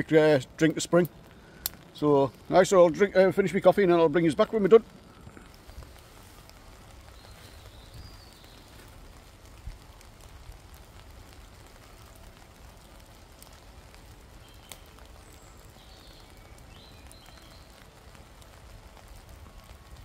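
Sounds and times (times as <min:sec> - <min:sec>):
light rain pattering on a tarp: 0:00.0 - 0:20.0.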